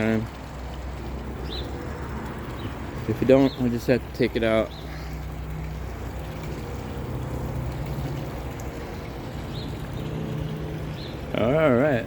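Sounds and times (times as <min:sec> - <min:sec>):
water splashing over waterfall: 0:00.0 - 0:12.0.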